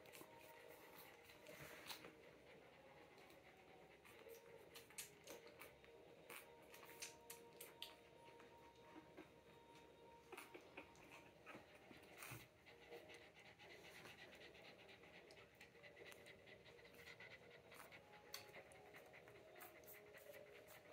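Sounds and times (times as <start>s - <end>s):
dog panting: 0.0s - 20.9s.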